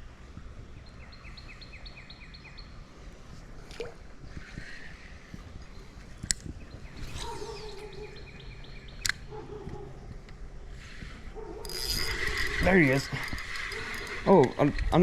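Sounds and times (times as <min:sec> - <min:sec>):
birds chirping: 0:00.6 - 0:03.3, 0:04.6 - 0:15.0.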